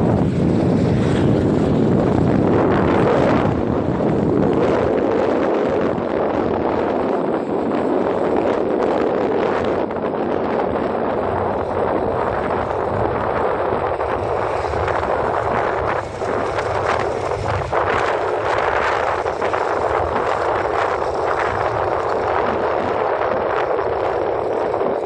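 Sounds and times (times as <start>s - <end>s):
vehicle road noise: 0.0s - 25.0s
wind rushing over microphone: 0.0s - 25.0s.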